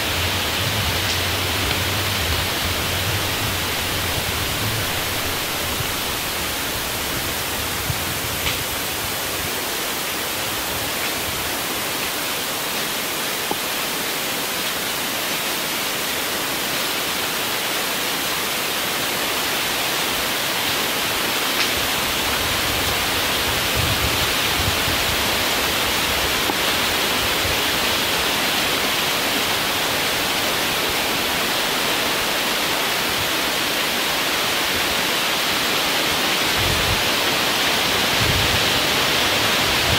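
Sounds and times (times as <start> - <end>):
wind through trees: 0.0 - 39.9.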